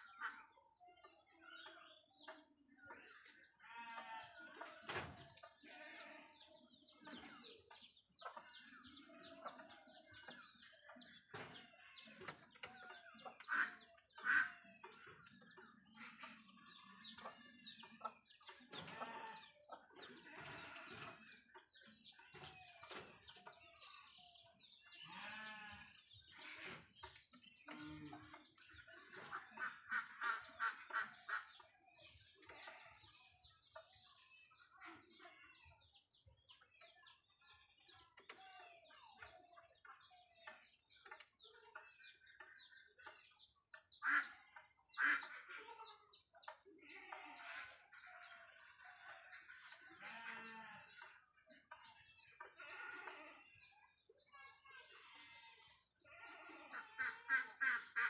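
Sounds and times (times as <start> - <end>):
bird chirps and clucking calls: 0.0 - 58.0.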